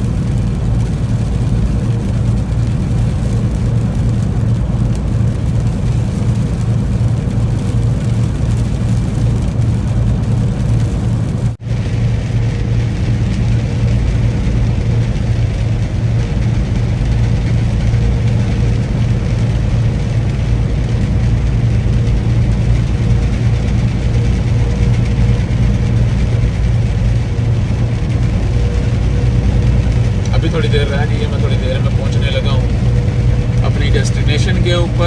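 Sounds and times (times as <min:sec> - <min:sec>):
truck engine and road noise: 0:00.0 - 0:35.0.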